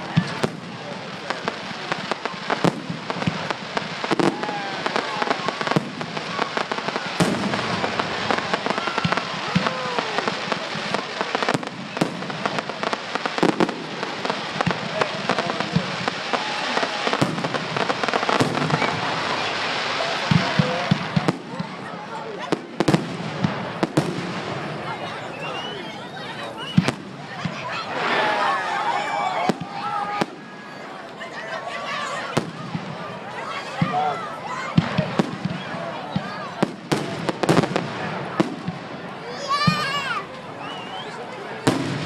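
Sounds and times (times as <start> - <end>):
fireworks bangs: 0.0 - 31.3, 31.9 - 42.0
faint voices: 0.0 - 42.0
fireworks crackling: 0.0 - 42.0.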